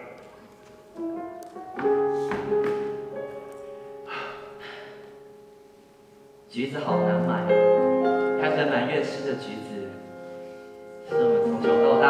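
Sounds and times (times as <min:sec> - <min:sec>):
keyboard playing slow chords: 0:00.0 - 0:12.0.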